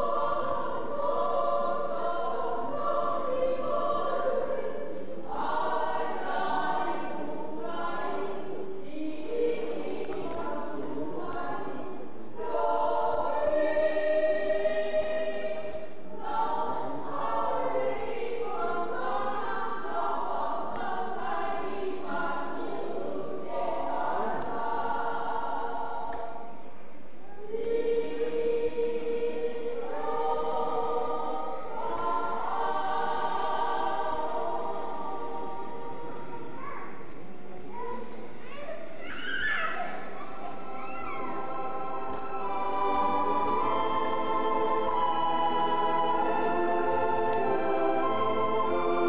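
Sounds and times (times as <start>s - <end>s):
group of voices singing: 0.0s - 37.7s, 39.8s - 49.0s.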